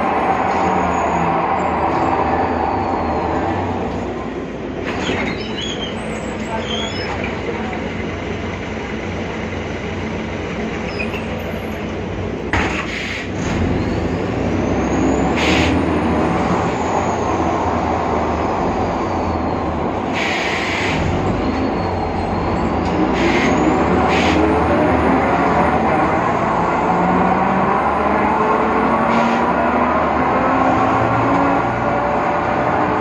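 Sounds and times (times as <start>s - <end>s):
bus cabin ride noise: 0.0s - 33.0s.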